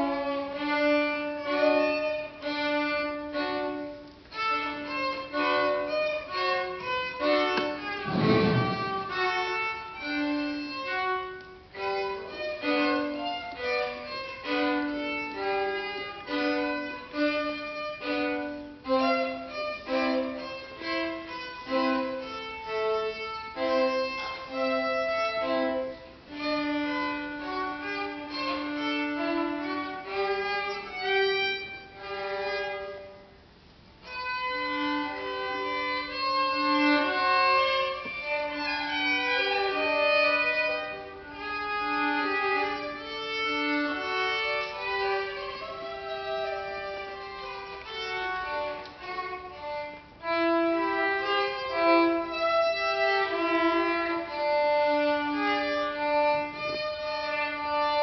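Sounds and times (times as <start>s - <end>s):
violin duet: 0.0s - 58.0s.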